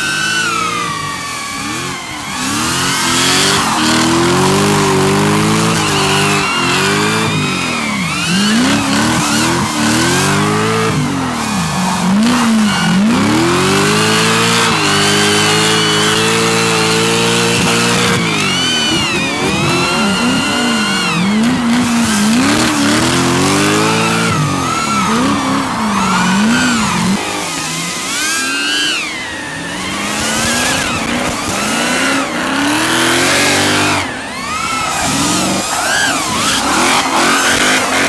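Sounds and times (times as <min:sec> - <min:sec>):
car engine revving hard: 0:00.0 - 0:38.0.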